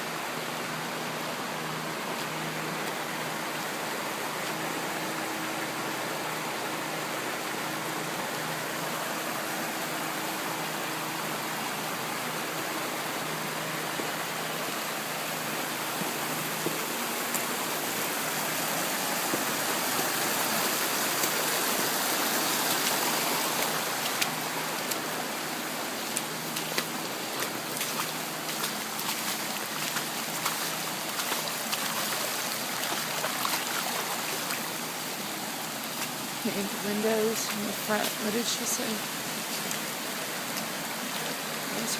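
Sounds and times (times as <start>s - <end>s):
running water rushing: 0.0s - 41.9s.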